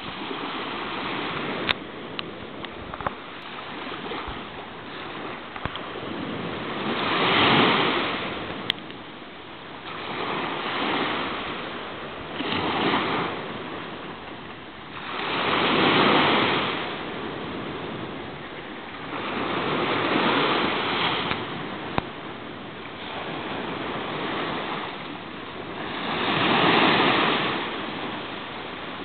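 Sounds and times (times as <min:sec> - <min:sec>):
waves washing up a beach: 0:00.0 - 0:29.0.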